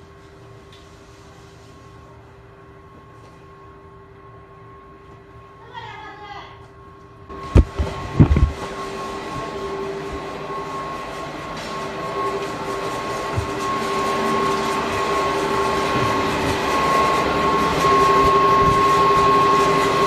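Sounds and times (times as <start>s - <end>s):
high machine whine: 0.0s - 20.0s
low machine hum: 0.0s - 20.0s.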